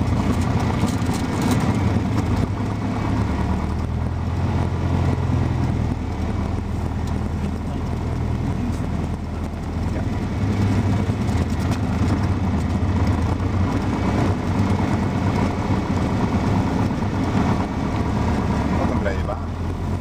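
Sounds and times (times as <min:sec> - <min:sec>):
aircraft engine running: 0:00.0 - 0:20.0.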